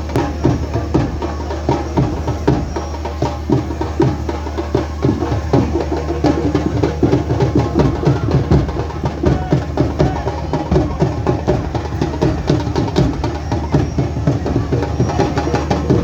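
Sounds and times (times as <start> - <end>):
loud drum-driven music: 0.0 - 16.0.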